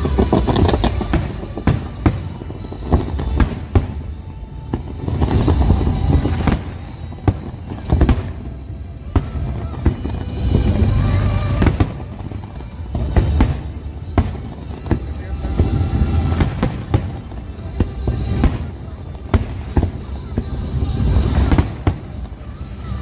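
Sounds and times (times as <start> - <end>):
continuous low rumble: 0.0 - 23.0
fireworks bursting: 0.0 - 23.0.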